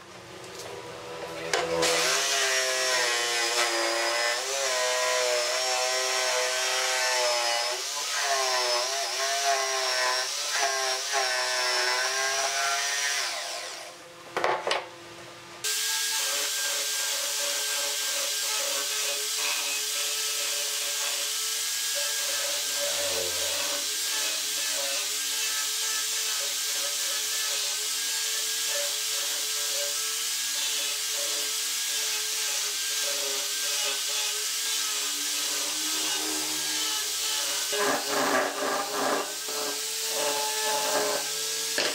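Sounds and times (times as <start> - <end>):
electric jigsaw cutting wood: 1.1 - 14.0, 15.6 - 41.9
angle grinder sanding wood: 1.4 - 13.8, 15.7 - 41.9.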